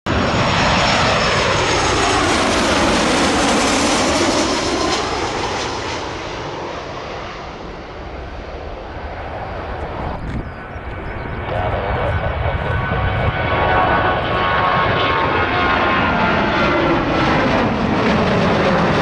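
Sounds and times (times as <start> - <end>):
jet airliner passing overhead: 0.1 - 19.0.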